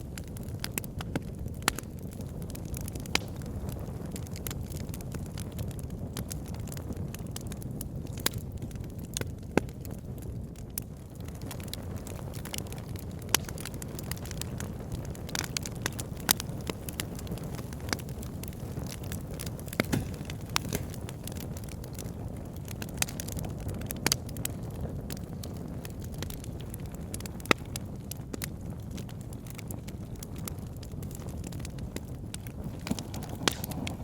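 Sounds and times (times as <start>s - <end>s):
fire flames rumbling: 0.0s - 34.0s
wood fire crackling and popping: 0.0s - 34.0s.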